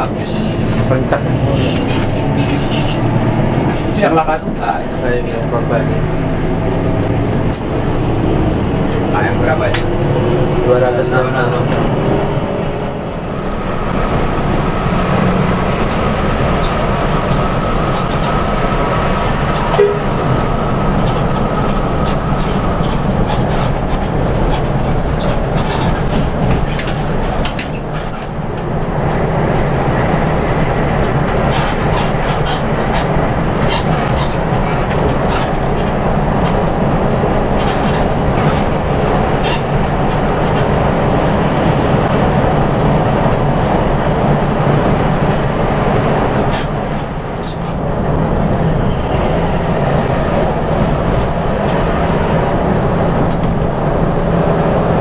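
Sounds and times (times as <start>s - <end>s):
bus engine drone: 0.0s - 55.0s
road rumble: 0.0s - 55.0s.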